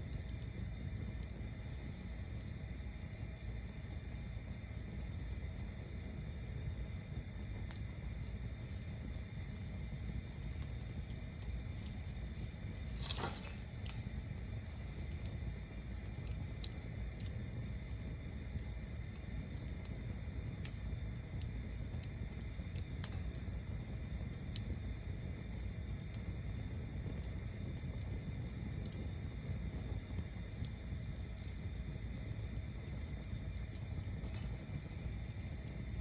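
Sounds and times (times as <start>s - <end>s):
bonfire rumble: 0.0s - 36.0s
burning wood crackling: 0.0s - 36.0s.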